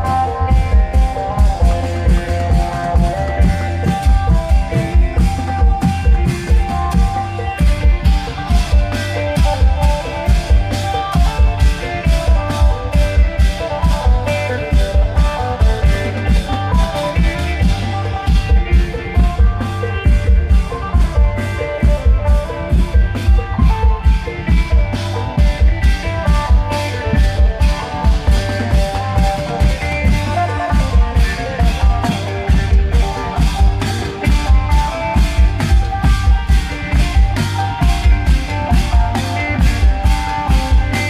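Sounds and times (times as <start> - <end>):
long-drum band music: 0.0 - 41.0.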